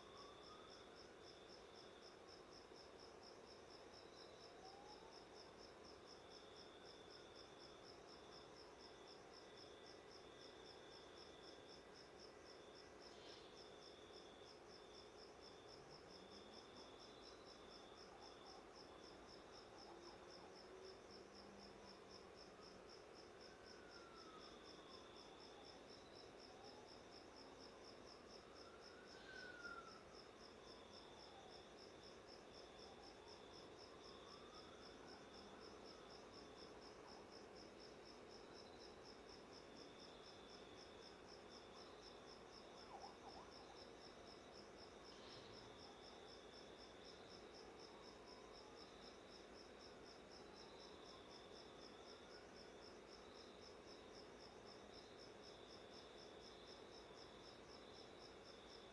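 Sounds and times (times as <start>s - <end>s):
insect chirping: 0.0s - 58.9s.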